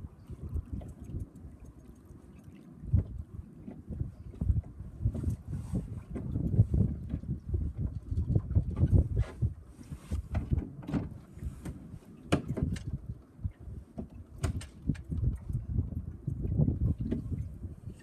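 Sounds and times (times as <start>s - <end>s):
wind buffeting microphone: 0.0s - 1.8s, 2.8s - 18.0s
knocks and slaps of water on boat: 0.0s - 18.0s.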